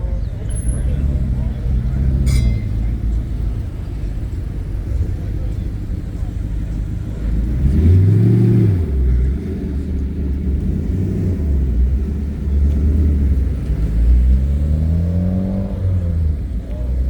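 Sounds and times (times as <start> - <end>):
car engine rumbling and revving: 0.0 - 17.0.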